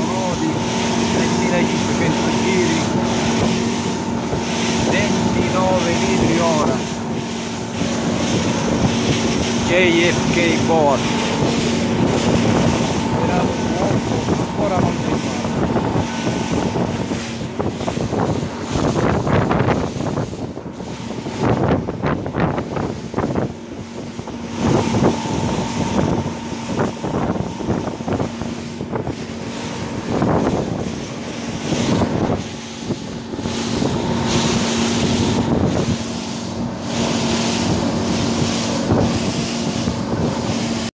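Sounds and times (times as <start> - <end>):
outboard engine running: 0.0 - 40.9
water rushing along hull: 0.0 - 40.9
wind buffeting microphone: 0.0 - 40.9.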